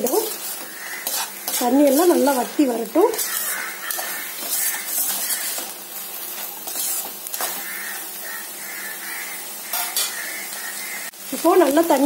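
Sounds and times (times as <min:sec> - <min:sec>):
steel spoon scraping a pan: 0:00.0 - 0:11.1
food sizzling in a pan: 0:00.0 - 0:12.0.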